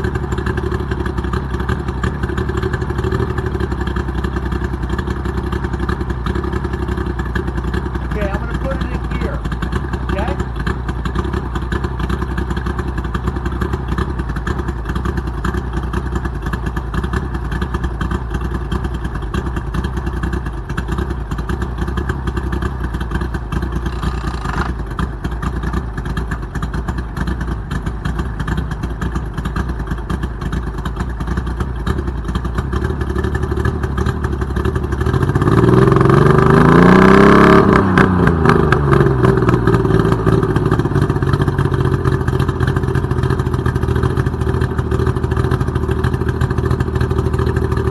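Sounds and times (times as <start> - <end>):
outboard motor running: 0.0 - 37.3, 37.9 - 47.9.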